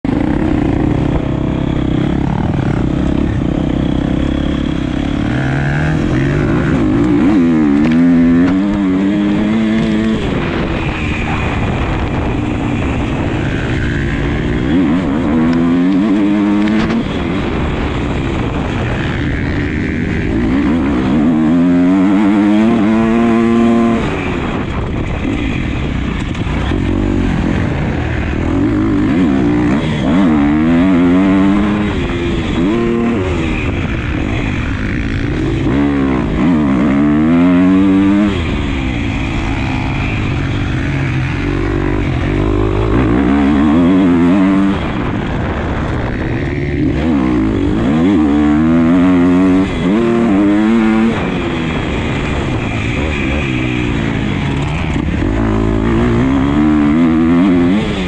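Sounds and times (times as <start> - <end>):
motocross motorcycle engine revving: 0.0 - 58.0.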